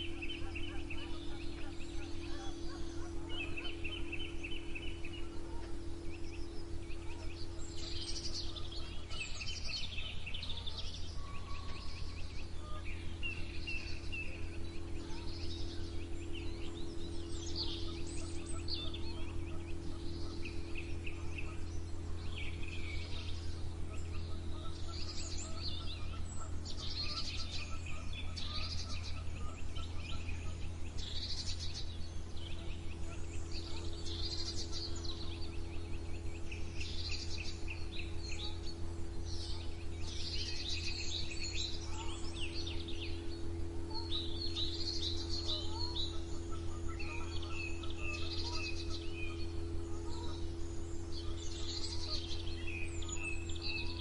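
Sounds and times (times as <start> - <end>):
low hum: 0.0 - 54.0
songbirds singing and chirping: 0.0 - 54.0.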